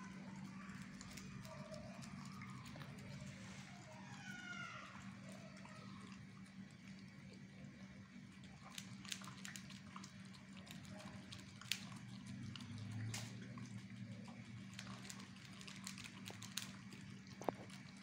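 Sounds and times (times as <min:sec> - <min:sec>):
dog eating wet smacks: 0:00.0 - 0:04.0, 0:05.0 - 0:18.0
steady low hum: 0:00.0 - 0:18.0.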